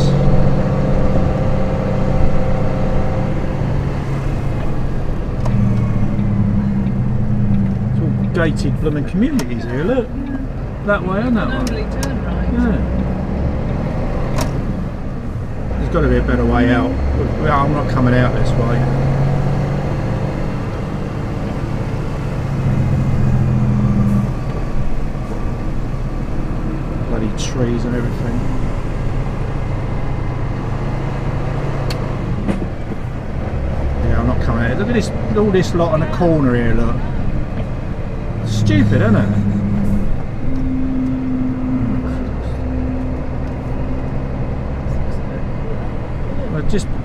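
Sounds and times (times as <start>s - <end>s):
diesel engine hum: 0.0s - 47.0s.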